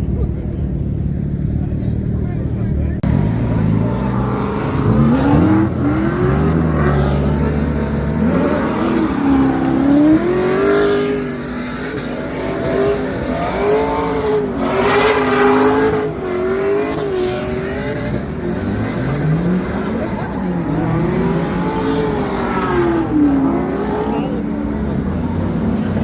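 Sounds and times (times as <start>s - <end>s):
car engine revving hard: 3.0s - 26.0s.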